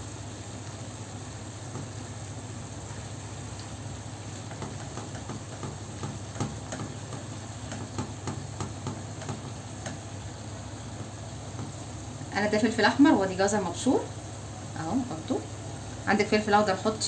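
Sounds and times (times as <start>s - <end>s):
onion and garlic sizzling in pan: 0.0s - 17.0s.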